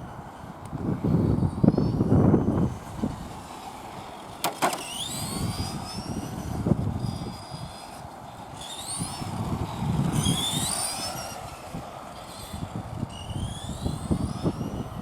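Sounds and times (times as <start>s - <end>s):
electric motor and gears whining: 0.1s - 15.0s
toy truck rumbling: 0.1s - 15.0s.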